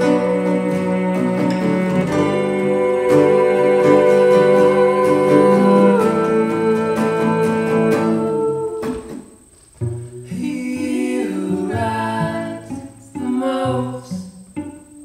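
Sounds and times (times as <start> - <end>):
acoustic guitars strummed and picked: 0.0 - 15.0
cello holding long notes: 0.0 - 15.0.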